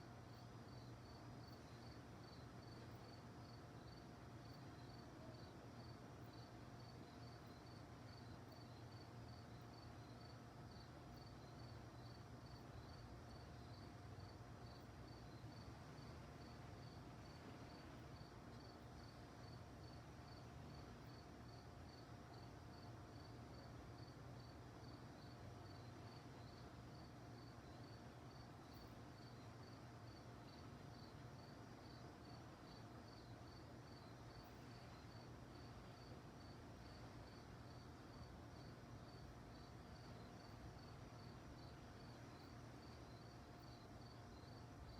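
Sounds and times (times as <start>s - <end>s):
crickets chirping: 0.0s - 44.9s
low steady hum: 0.0s - 44.9s.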